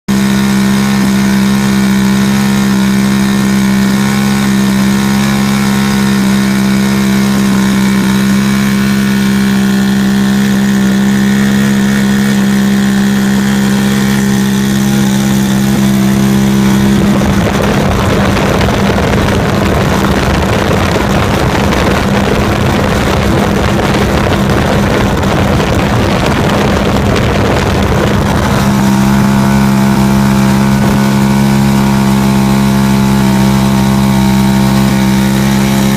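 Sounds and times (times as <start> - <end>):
aircraft engine running: 0.0 - 35.9.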